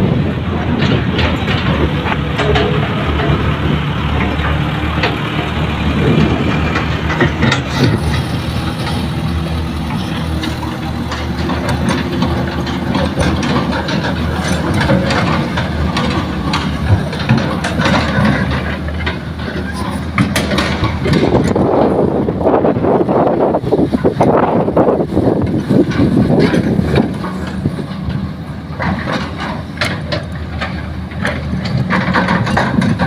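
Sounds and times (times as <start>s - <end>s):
diesel construction machinery running: 0.0s - 33.0s
knocks and clanks: 0.0s - 33.0s.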